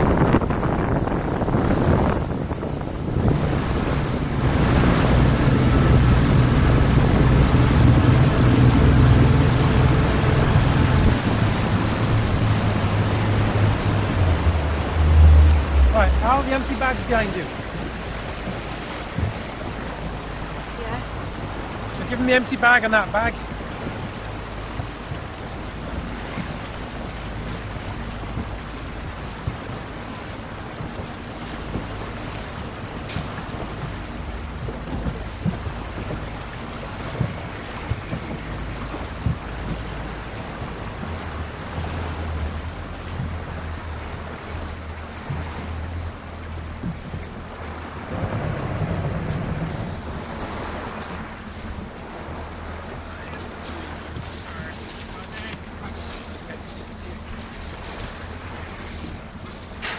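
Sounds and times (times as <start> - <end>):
wind over microphone: 0.0 - 22.1, 23.2 - 59.9
boat engine running at low revs: 0.0 - 59.9
waves against hull: 0.0 - 59.9.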